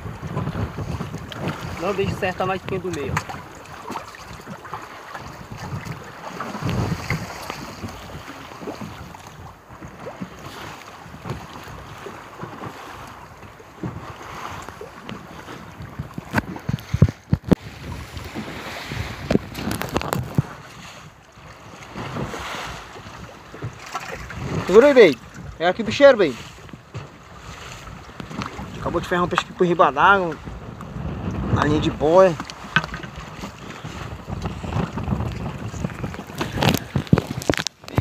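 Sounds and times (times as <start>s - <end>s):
waves washing against boat hull: 0.0s - 38.0s
wind buffeting microphone: 0.0s - 38.0s.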